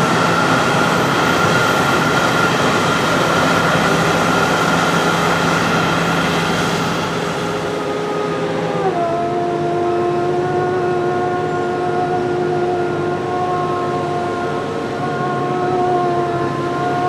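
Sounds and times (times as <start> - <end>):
diesel engine running with whine: 0.0 - 17.0.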